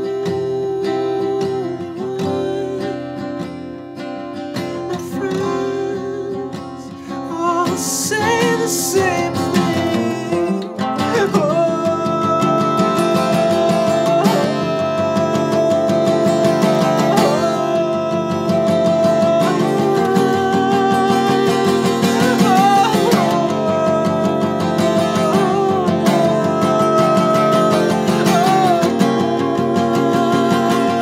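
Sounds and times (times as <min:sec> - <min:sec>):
man singing: 0:00.0 - 0:03.6, 0:04.4 - 0:31.0
acoustic guitar: 0:00.0 - 0:31.0.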